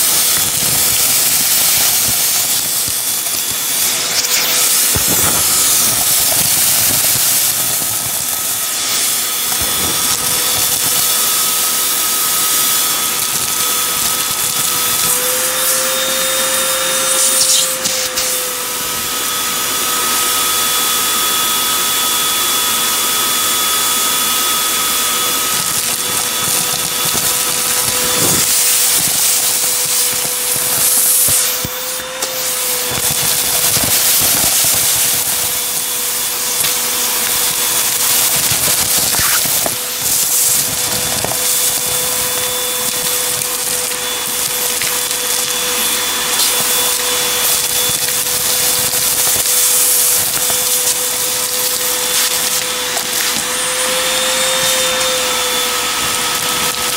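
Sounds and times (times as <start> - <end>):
vacuum cleaner whine: 0.0 - 56.9.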